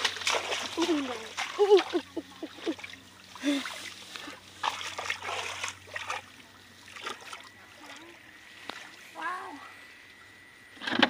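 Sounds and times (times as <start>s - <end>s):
splashing in shallow water: 0.0s - 9.0s.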